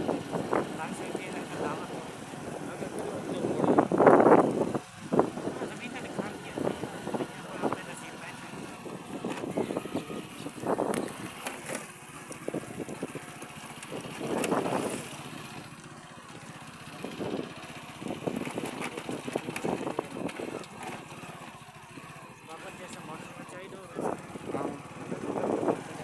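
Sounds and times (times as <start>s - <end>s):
small engine running: 0.0s - 26.0s
voices calling out: 0.0s - 26.0s.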